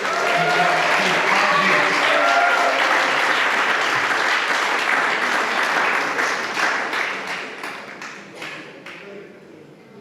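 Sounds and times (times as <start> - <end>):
spectators applauding: 0.0 - 8.9.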